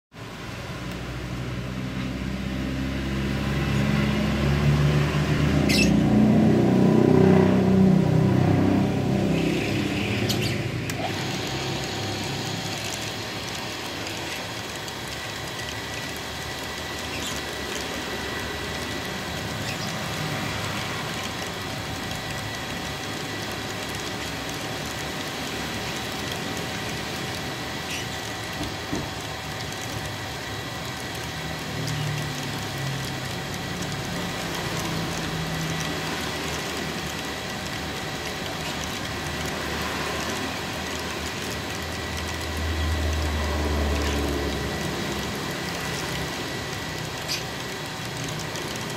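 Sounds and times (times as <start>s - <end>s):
engine running: 0.1s - 48.9s.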